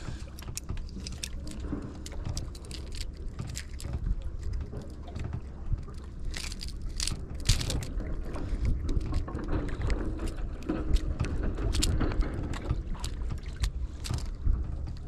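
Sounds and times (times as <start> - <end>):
clicks and knocks handling fish: 0.0 - 15.0
wind rumble on microphone: 0.0 - 15.0.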